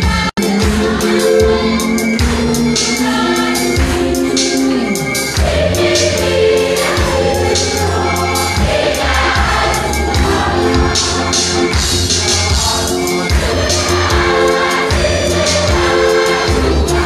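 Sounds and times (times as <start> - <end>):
choir singing a hymn: 0.0 - 17.0
instrumental accompaniment: 0.0 - 17.0
sustained bass: 0.0 - 17.0.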